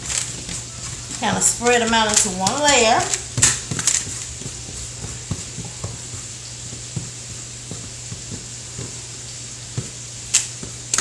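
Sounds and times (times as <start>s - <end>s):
potato pieces tapping on sheet pan: 0.0s - 9.0s.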